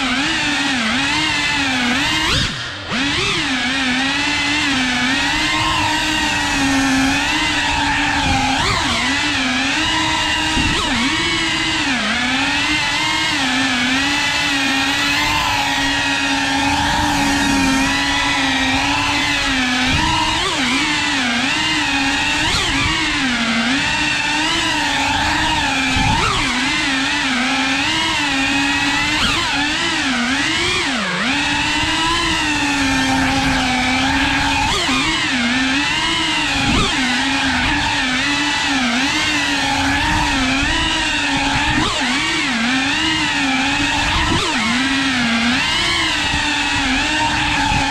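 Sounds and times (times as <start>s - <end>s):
drone motors buzzing: 0.0s - 47.9s.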